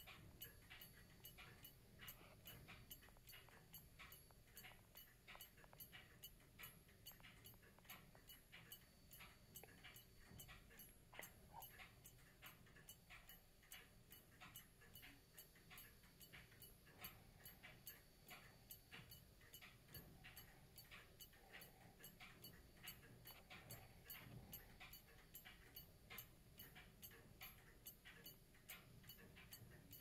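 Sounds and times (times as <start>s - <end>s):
clock ticking faintly: 0.0s - 30.0s.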